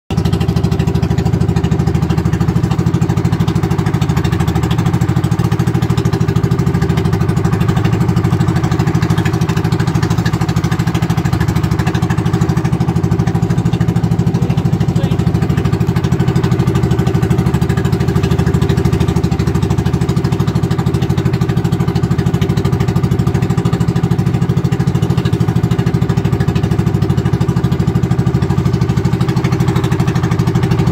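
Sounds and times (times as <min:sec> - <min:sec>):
boat engine droning: 0:00.1 - 0:30.9
water splashing along hull: 0:00.1 - 0:30.9.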